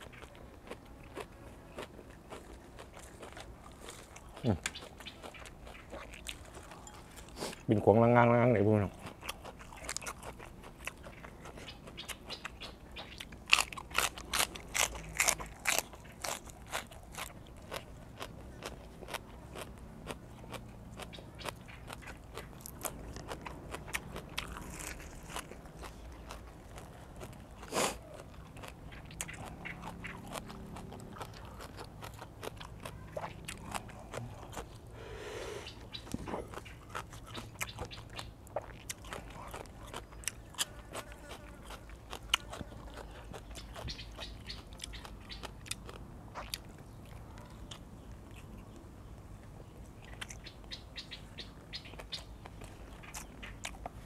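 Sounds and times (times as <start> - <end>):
crunching leafy greens: 0.0 - 54.0.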